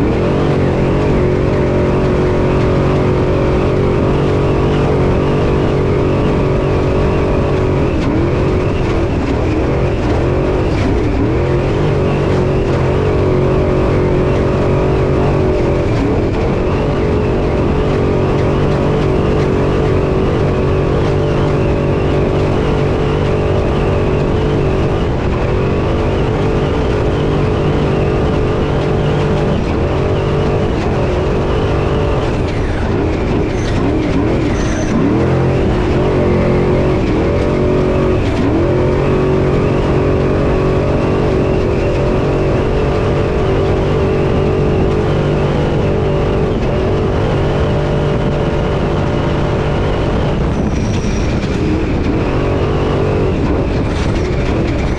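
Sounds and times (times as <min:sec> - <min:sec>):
truck engine running hard: 0:00.0 - 0:54.9.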